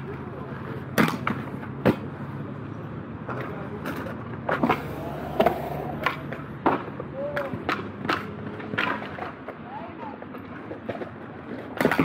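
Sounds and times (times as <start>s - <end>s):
skates clacking on concrete ledge: 0.0s - 2.2s, 3.2s - 12.0s
skate wheels rolling over concrete: 0.0s - 2.4s, 3.2s - 12.0s.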